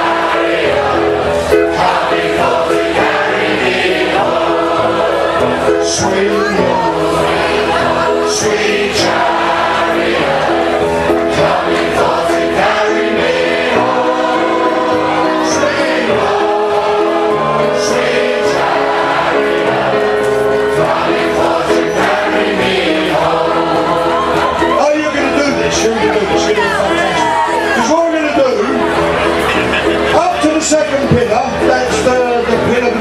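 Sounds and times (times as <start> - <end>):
crowd singing a spiritual: 0.0 - 27.2.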